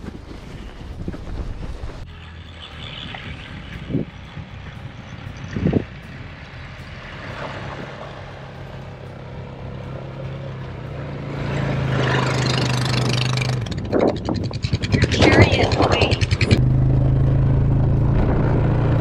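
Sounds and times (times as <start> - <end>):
quad engine running: 2.1 - 19.0.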